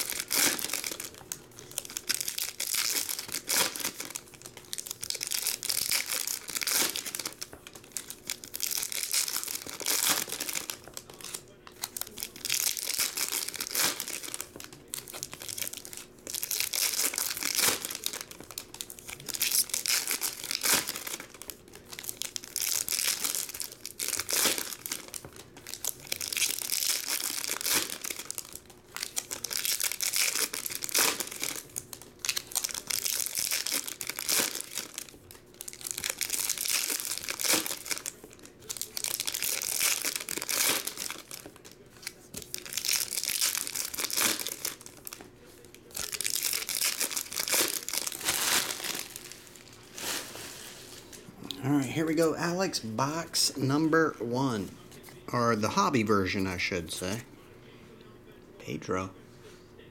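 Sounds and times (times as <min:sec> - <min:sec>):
foil wrappers crinkling and tearing: 0:00.0 - 0:56.4.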